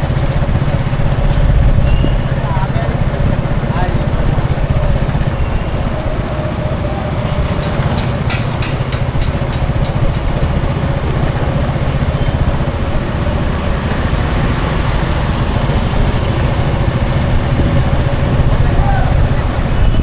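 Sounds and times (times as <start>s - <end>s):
nearby engine running: 0.0s - 20.0s
road traffic: 0.0s - 20.0s.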